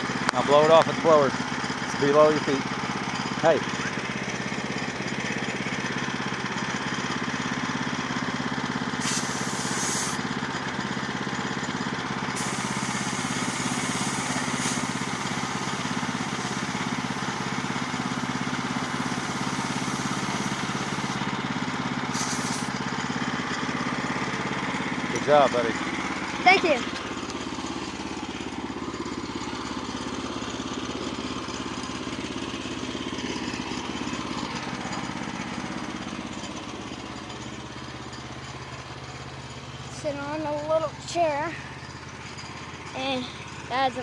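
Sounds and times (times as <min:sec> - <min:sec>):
blower engine running: 0:00.0 - 0:44.0.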